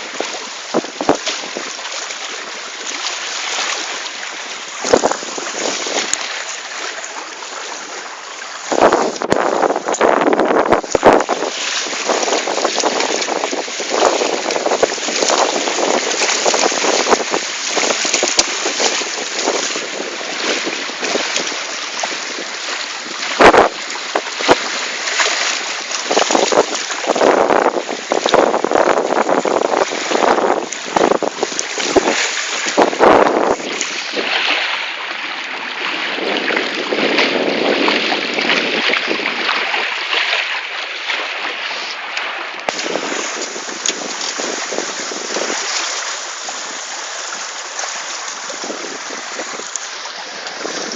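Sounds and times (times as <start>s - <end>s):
wind buffeting microphone: 0.0s - 2.9s, 3.8s - 34.7s, 35.7s - 40.1s, 42.6s - 50.9s
water rushing and splashing: 0.0s - 50.9s.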